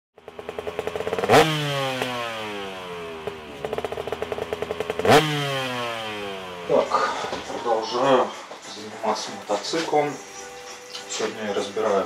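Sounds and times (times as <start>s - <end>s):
motorcycle engine revving: 0.2s - 12.0s.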